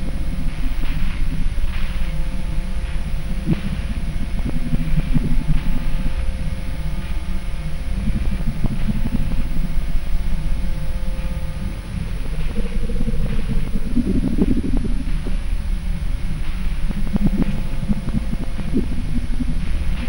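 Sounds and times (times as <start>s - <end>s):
low rumbling drone: 0.0s - 20.0s.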